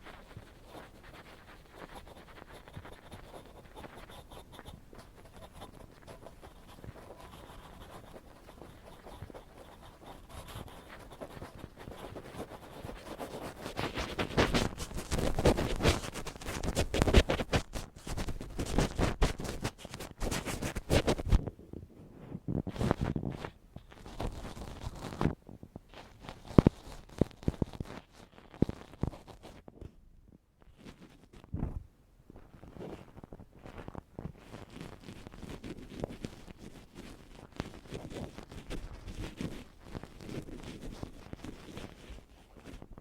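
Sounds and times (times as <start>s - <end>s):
ear pick scratching: 0.0s - 21.5s, 22.2s - 29.7s, 32.5s - 43.0s.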